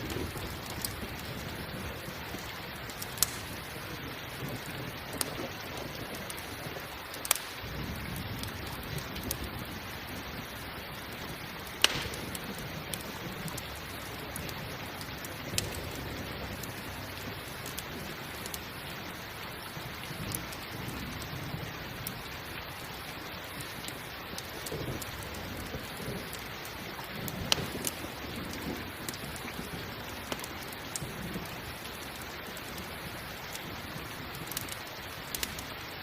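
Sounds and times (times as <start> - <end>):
campfire crackling and popping: 0.0 - 36.0
steady rain hiss: 0.0 - 36.0.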